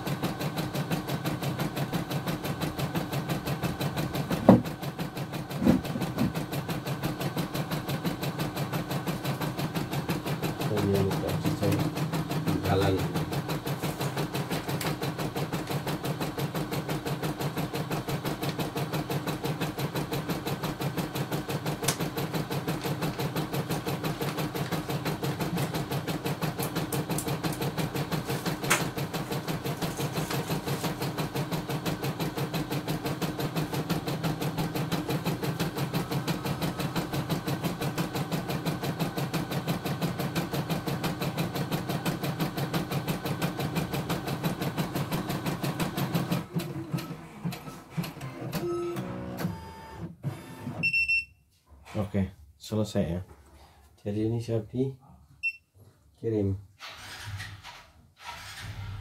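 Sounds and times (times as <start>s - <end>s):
embroidery machine stitching: 0.0s - 50.9s.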